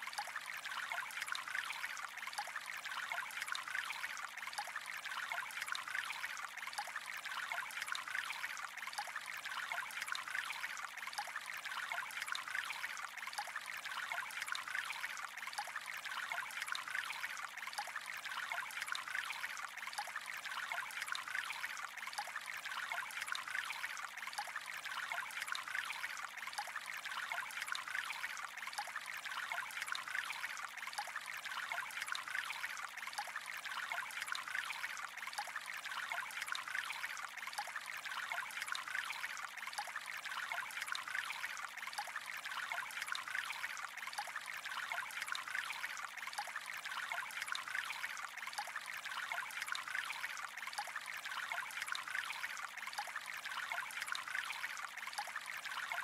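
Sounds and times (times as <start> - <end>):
water trickling and burbling: 0.0 - 56.0.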